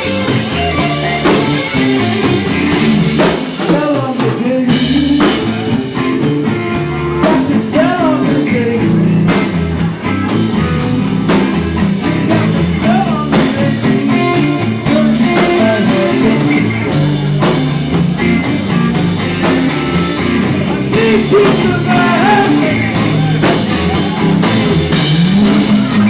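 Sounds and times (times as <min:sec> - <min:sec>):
bass guitar: 0:00.0 - 0:26.0
drum kit: 0:00.0 - 0:26.0
electric guitar lead: 0:00.0 - 0:26.0.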